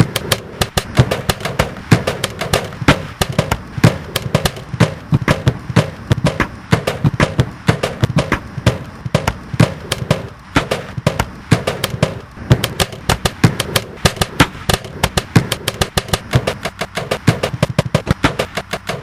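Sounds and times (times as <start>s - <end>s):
looped rhythmic knocks and clicks: 0.0s - 19.0s.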